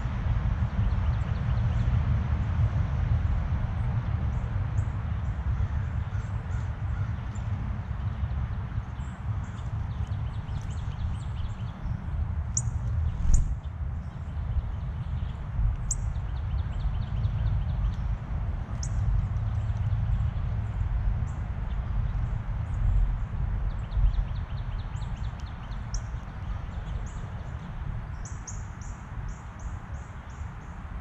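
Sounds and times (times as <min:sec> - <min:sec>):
low outdoor rumble: 0:00.0 - 0:31.0
songbirds chirping: 0:04.0 - 0:31.0.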